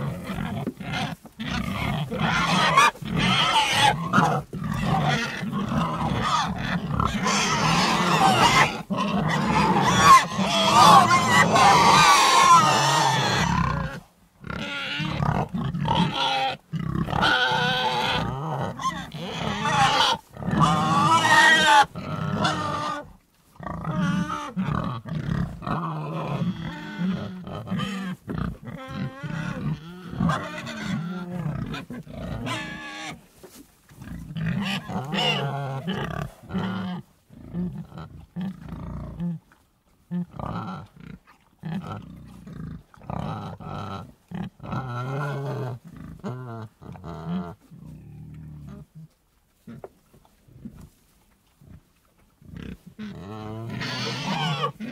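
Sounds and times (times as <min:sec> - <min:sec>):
pigs grunting and squealing: 0:00.0 - 0:33.2, 0:34.0 - 0:49.9, 0:52.4 - 0:54.9.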